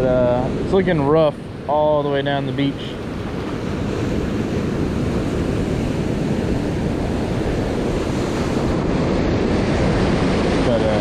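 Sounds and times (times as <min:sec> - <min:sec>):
ocean surf breaking on sand: 0:00.0 - 0:11.0
wind rumbling on microphone: 0:00.0 - 0:11.0.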